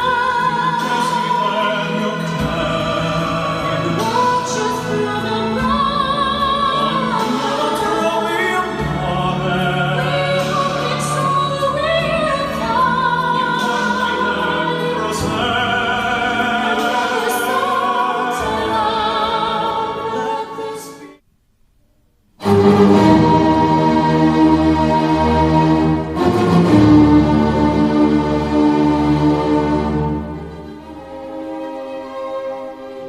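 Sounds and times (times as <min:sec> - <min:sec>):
operatic singing with orchestra: 0:00.0 - 0:21.2, 0:22.4 - 0:33.0.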